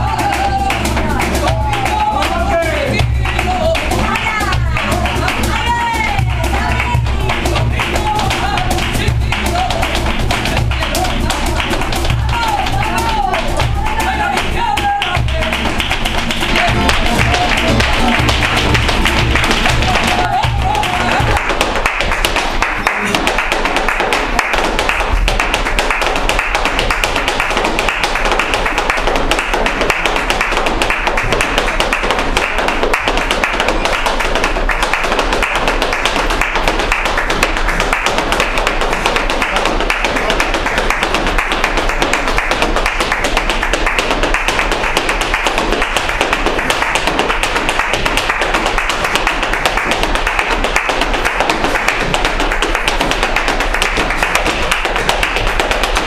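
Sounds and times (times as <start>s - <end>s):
dancer's shoes tapping on floor: 0.0s - 56.0s
flamenco music: 0.0s - 56.0s.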